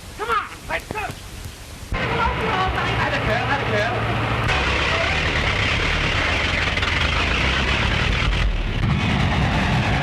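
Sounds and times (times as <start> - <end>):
moving vehicle rumble and hiss: 0.0 - 10.0.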